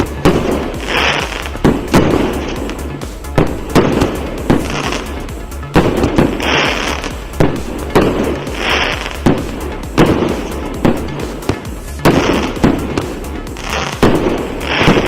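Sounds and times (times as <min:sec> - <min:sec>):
background music with low beat: 0:00.0 - 0:15.0
firework launch and burst reports: 0:00.0 - 0:15.0.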